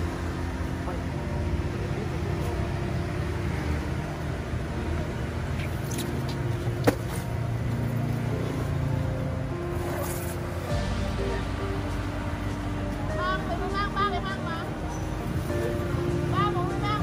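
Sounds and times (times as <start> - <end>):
motor vehicle engine rumbling: 0.0 - 17.0.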